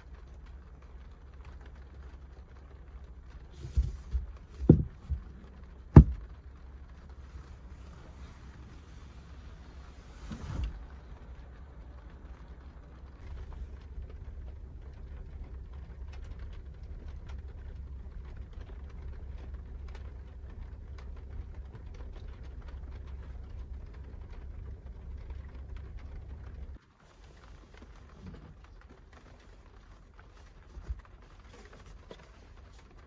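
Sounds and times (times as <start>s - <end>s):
rain tapping on van roof: 0.0s - 33.0s
steady low rumble: 0.0s - 33.0s.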